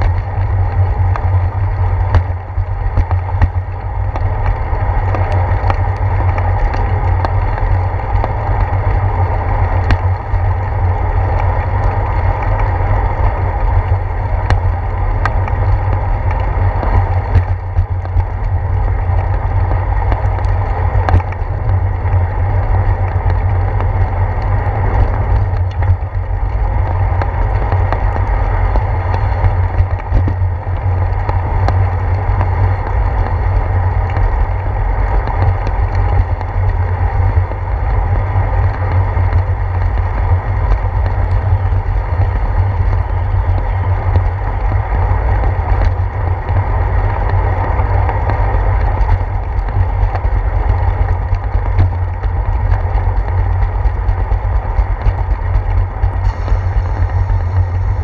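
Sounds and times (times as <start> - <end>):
wind and road rumble: 0.0 - 58.0.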